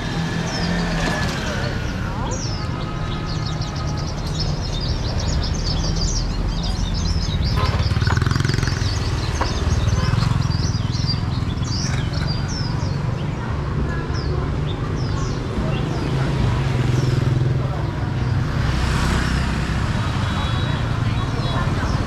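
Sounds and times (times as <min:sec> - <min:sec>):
small birds chirping: 0:00.0 - 0:22.0
street traffic rumble: 0:00.0 - 0:22.0.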